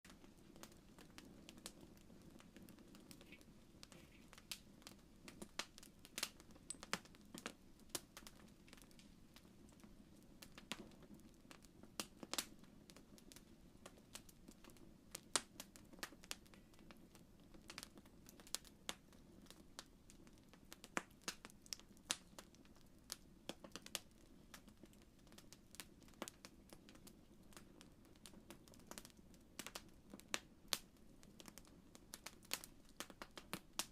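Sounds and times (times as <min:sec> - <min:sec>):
campfire crackling: 0:00.0 - 0:33.9
faint low background: 0:00.0 - 0:33.9.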